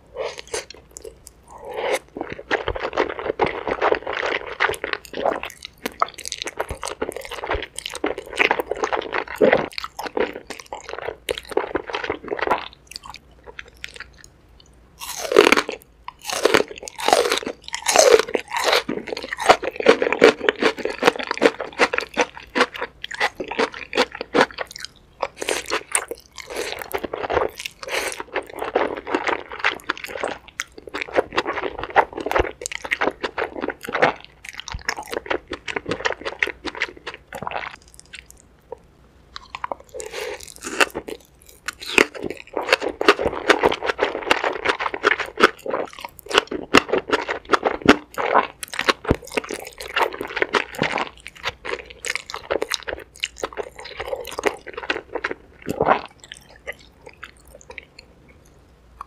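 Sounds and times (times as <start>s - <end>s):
crunching food: 0.1s - 58.5s
chewing noodles: 0.2s - 38.8s, 39.4s - 58.4s.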